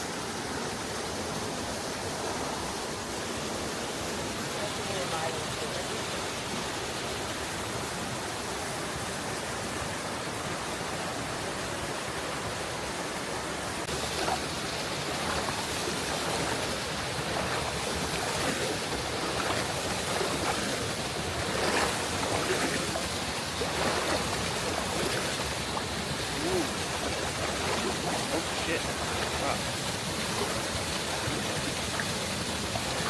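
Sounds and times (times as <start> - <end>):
waterfall rushing: 0.0 - 33.0
small water splashes: 3.8 - 33.0.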